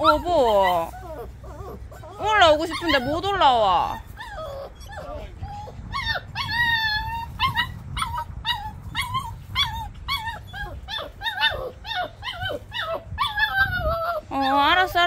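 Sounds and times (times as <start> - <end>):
puppy whimpering: 0.0 - 15.0.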